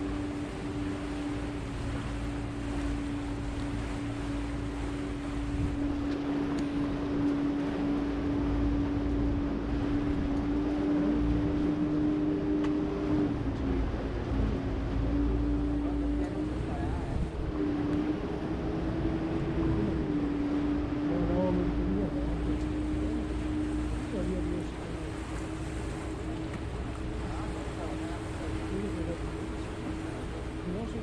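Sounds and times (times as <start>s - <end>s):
boat engine humming: 0.0s - 31.0s
rushing water: 0.0s - 31.0s
wind: 0.0s - 31.0s.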